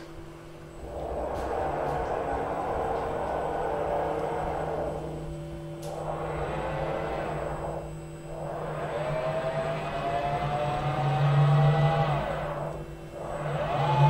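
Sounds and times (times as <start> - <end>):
motor drives humming: 0.0 - 14.0
rising motor whine: 0.0 - 14.0.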